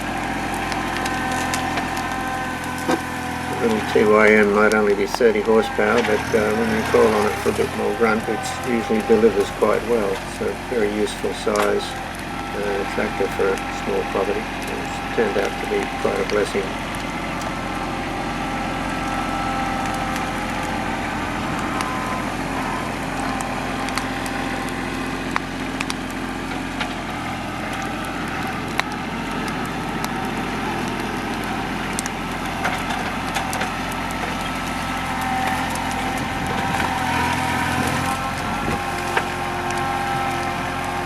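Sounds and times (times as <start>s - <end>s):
burning timber crackling and popping: 0.0s - 41.0s
tractor diesel engine running: 0.0s - 41.0s.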